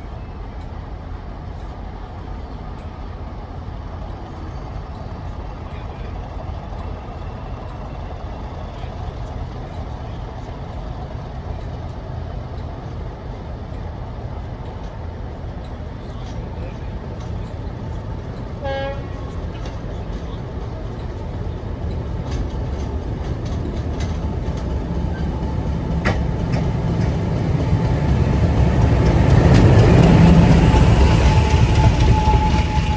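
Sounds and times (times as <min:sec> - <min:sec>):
diesel locomotive engine rumbling: 0:00.0 - 0:32.9.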